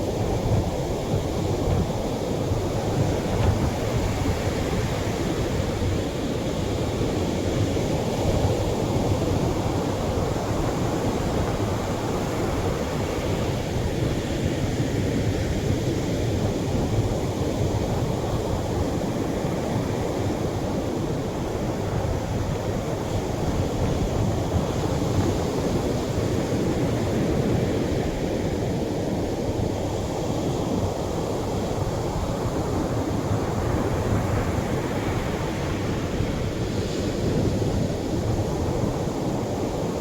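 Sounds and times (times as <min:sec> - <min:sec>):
gentle surf washing on shore: 0:00.0 - 0:40.0.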